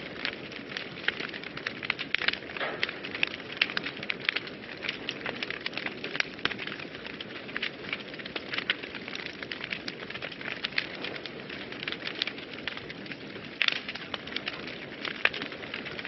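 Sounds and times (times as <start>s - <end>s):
fire crackling and popping: 0.0s - 16.0s
fire flames rushing: 0.0s - 16.0s.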